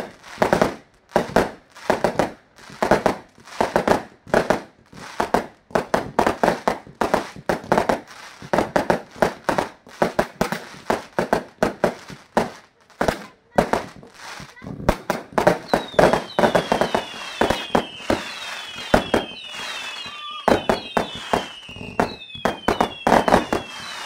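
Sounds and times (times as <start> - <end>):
aerial fireworks bursting: 0.0 - 24.0.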